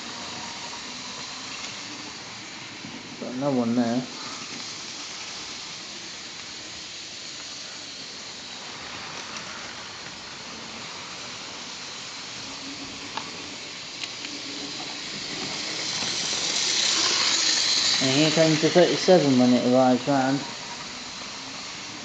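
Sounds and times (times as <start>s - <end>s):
model train wheels and motors rumbling: 0.0s - 22.0s.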